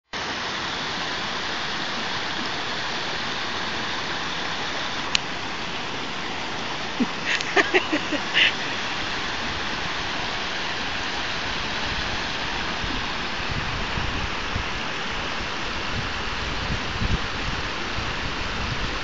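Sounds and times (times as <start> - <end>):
river water rushing over rocks: 0.2 - 19.0.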